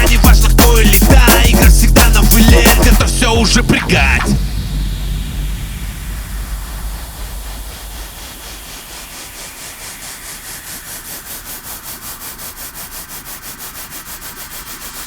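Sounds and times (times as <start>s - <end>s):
pulsing white-noise riser: 0.0s - 15.0s.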